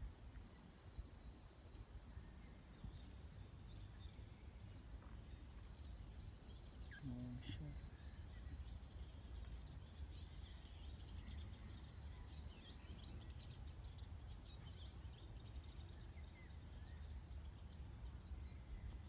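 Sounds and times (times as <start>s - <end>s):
small birds twittering: 0.3s - 19.0s.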